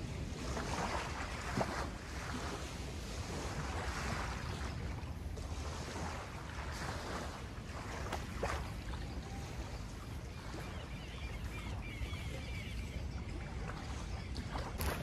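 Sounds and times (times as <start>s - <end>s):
river water moving: 0.0s - 15.0s
wind rumbling on microphone: 0.0s - 15.0s.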